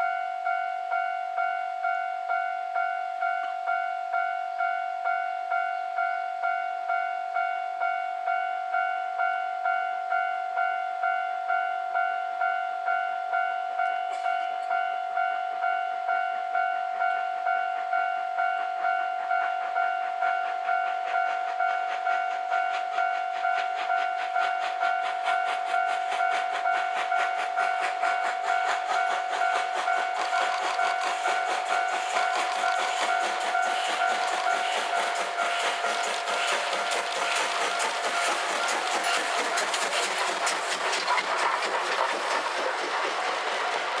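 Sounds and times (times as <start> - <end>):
steam train approaching: 0.0 - 44.0.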